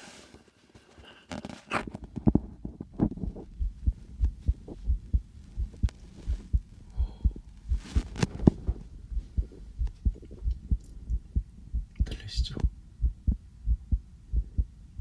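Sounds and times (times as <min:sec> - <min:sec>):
heartbeat through stethoscope: 0:02.6 - 0:15.0.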